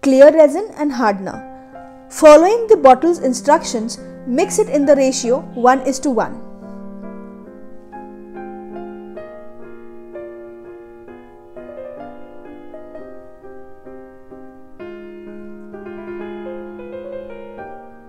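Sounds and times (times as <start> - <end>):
slow gentle piano melody: 0.6 - 18.0.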